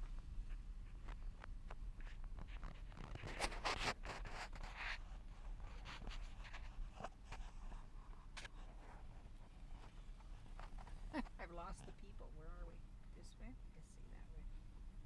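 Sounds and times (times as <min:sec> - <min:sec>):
rustling and scraping near microphone: 0:00.0 - 0:12.7.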